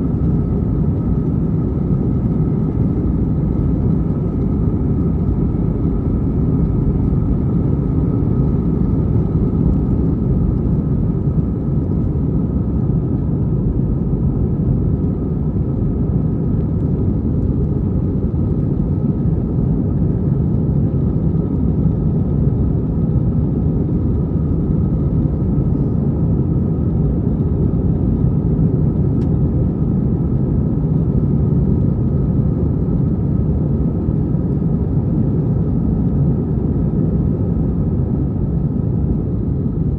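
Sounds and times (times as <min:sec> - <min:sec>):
faint steady whine: 0:00.0 - 0:39.9
jet airliner cabin drone: 0:00.0 - 0:39.9.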